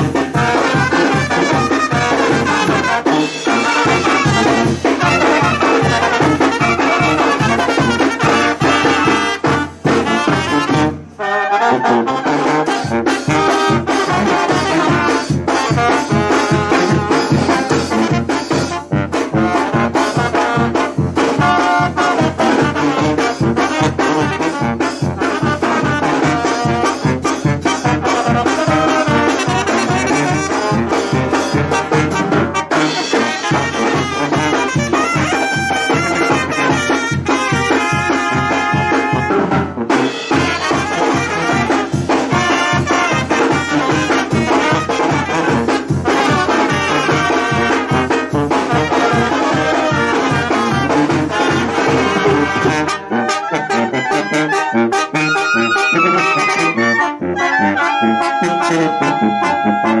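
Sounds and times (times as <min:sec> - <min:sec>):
brass band music: 0:00.0 - 1:00.0
trumpets and trombones: 0:00.0 - 1:00.0.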